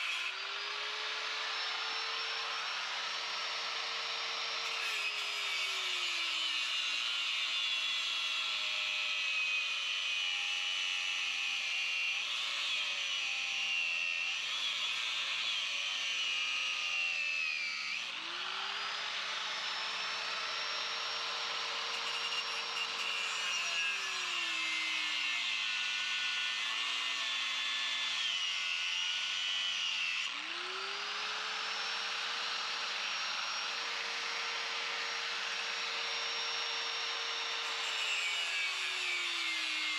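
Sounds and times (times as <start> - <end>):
power tool grinding metal: 0.0 - 39.9.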